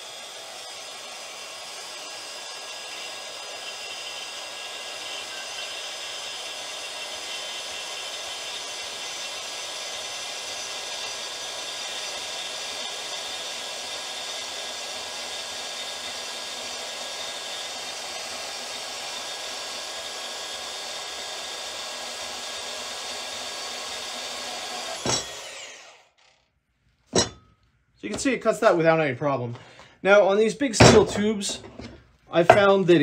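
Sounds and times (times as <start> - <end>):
bandsaw cutting steel tube: 0.0 - 26.4, 27.1 - 27.4, 30.8 - 33.0.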